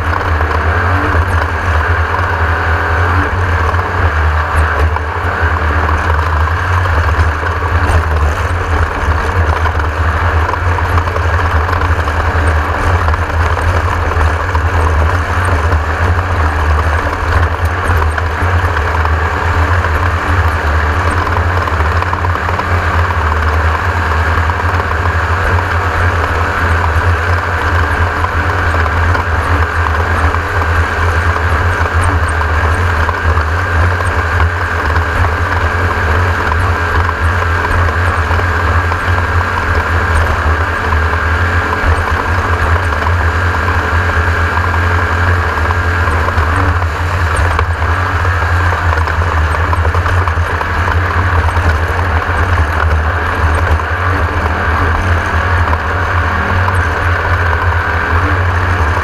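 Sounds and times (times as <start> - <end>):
buggy engine droning: 0.0 - 59.0.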